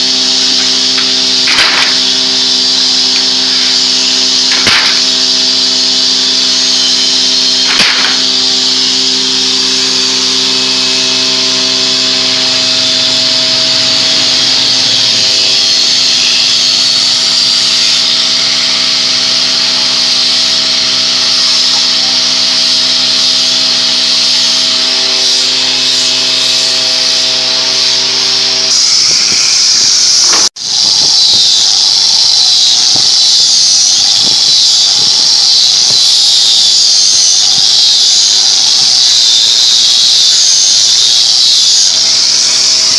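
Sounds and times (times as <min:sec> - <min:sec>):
woodworking machine hiss and hum: 0:00.0 - 0:42.9.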